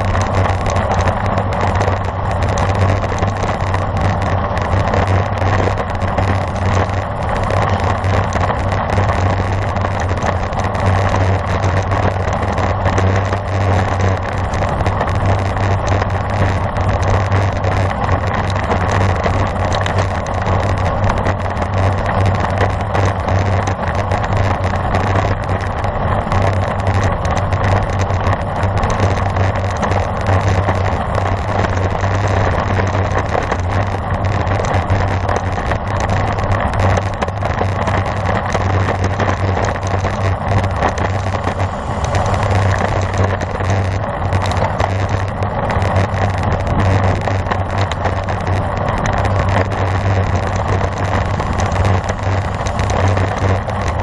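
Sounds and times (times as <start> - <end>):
bicycle road noise rumble: 0.0 - 54.0
rushing wind: 0.0 - 54.0.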